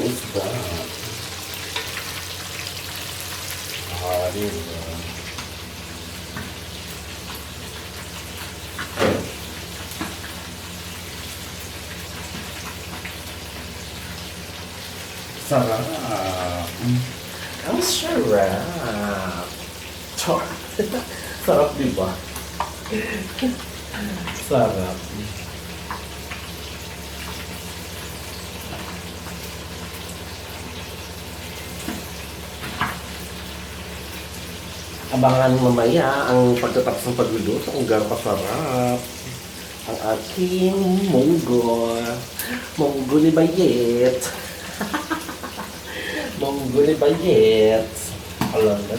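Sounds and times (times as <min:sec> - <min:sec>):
fish sizzling in hot oil: 0:00.0 - 0:48.9
oil crackles: 0:00.0 - 0:48.9.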